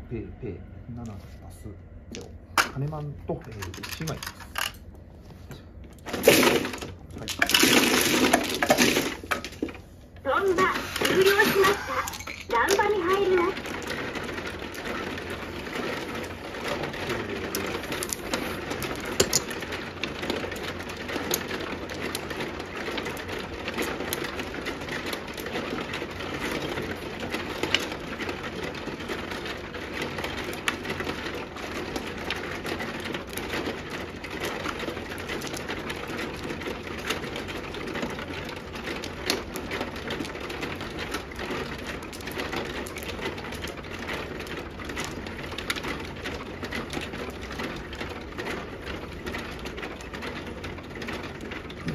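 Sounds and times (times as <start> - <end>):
mahjong tiles clicking: 6.0 - 51.9.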